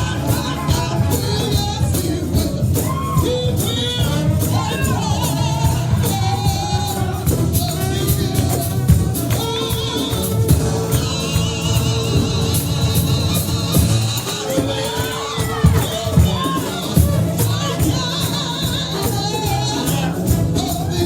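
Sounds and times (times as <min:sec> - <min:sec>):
band playing: 0:00.0 - 0:21.0
high percussion hits: 0:00.0 - 0:21.0
voices singing gospel: 0:00.0 - 0:21.0.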